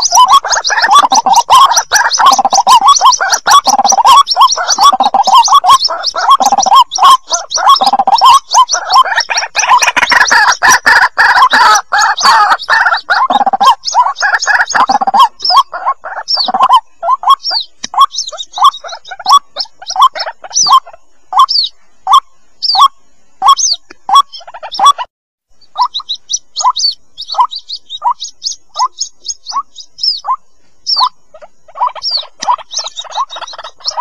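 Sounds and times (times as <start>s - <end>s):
bird chicks chirping: 0.0s - 34.0s.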